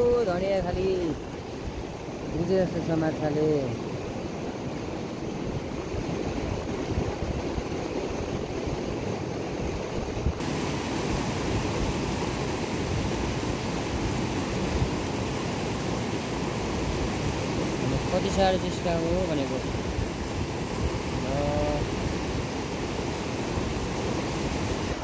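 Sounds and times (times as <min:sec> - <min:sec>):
river rushing over boulders: 0:00.0 - 0:25.0.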